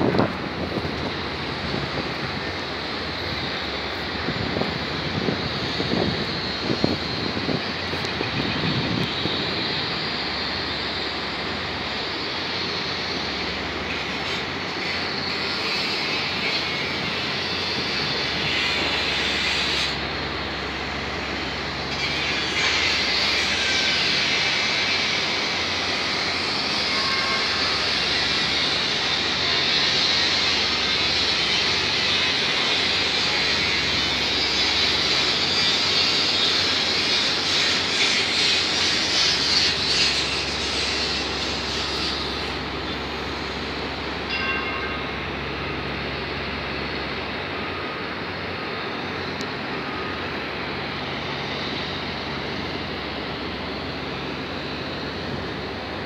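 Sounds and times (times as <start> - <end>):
outdoor rumble and hiss: 0.0 - 56.0.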